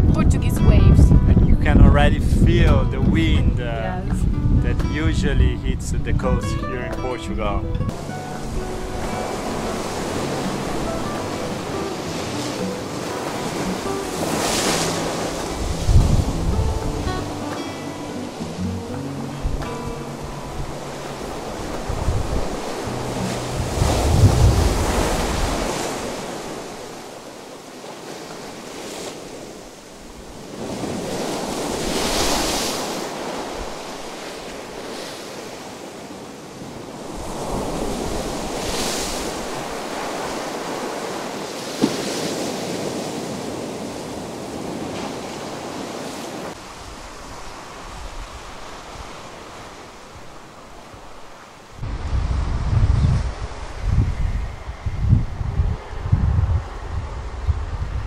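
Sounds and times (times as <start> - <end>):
wind buffeting microphone: 0.0 - 17.5, 18.6 - 27.5, 28.4 - 51.1, 51.7 - 58.0
ocean surf breaking: 0.0 - 58.0.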